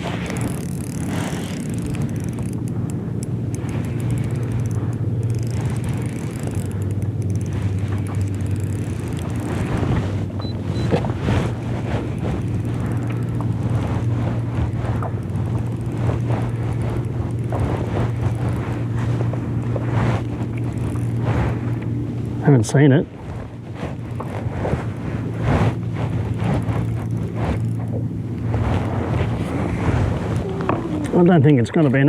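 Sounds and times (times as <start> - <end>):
boat motor humming: 0.0 - 32.0
water noise: 0.0 - 32.0.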